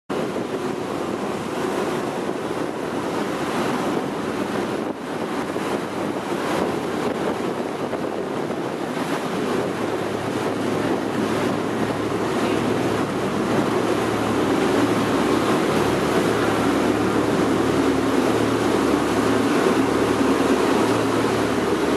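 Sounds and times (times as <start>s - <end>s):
low engine hum: 0.1s - 21.9s
water rushing along boat hull: 0.1s - 21.9s
wind buffeting microphone: 0.1s - 21.9s.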